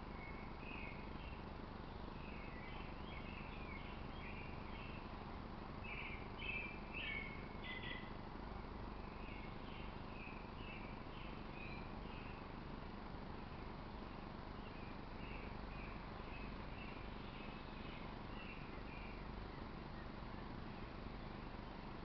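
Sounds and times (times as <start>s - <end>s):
outdoor background hum: 0.0s - 22.0s
small birds chirping: 0.0s - 22.0s.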